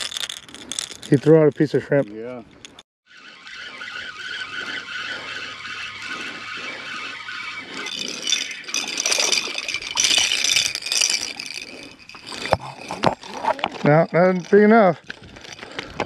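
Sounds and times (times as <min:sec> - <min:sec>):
fishing reel gear rattle: 0:00.0 - 0:16.0.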